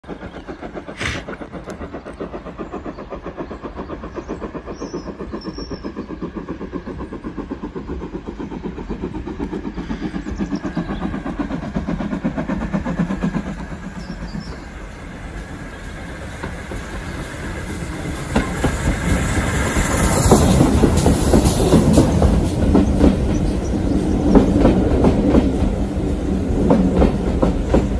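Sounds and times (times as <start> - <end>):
steam locomotives chuffing: 0.0 - 27.9.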